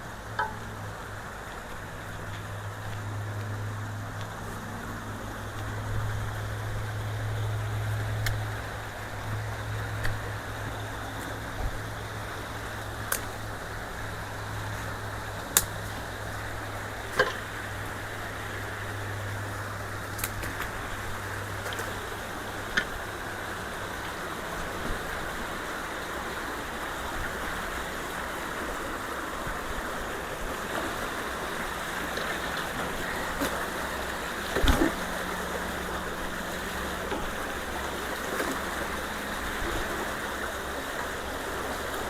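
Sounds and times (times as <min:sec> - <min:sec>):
creek water rushing through culvert: 0:00.0 - 0:42.0.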